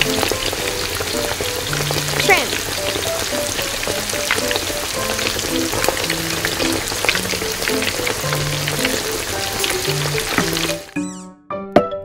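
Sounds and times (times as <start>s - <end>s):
sauce sizzling in metal pan: 0.0s - 11.0s
light background music: 0.0s - 12.0s.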